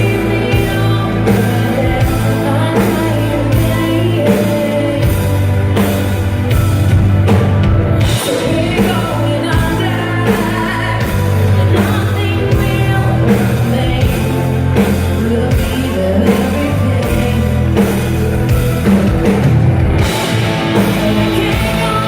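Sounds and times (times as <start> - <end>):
woman singing: 0.0 - 6.6, 8.0 - 18.9, 20.0 - 22.0
live metal band playing: 0.0 - 22.0.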